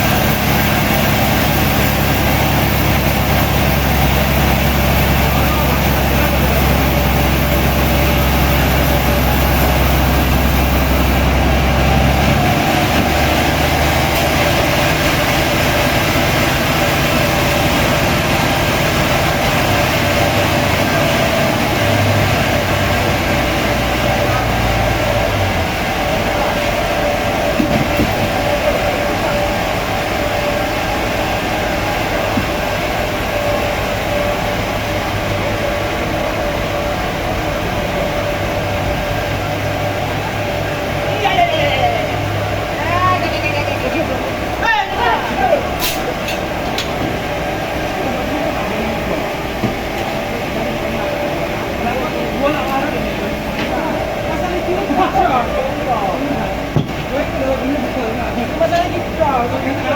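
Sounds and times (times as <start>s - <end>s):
deep hum: 0.0s - 59.9s
sawmill machinery whining: 0.0s - 59.9s.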